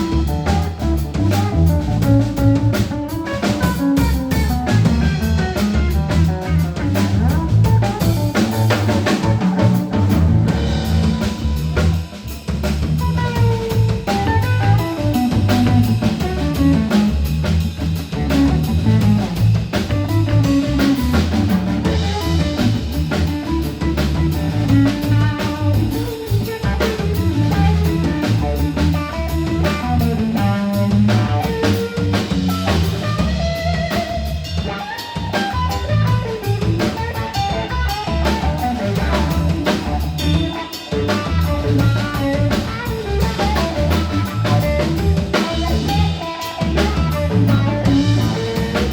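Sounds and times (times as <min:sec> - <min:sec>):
bass: 0:00.0 - 0:48.9
blues guitar melody: 0:00.0 - 0:48.9
drum kit: 0:00.0 - 0:48.9.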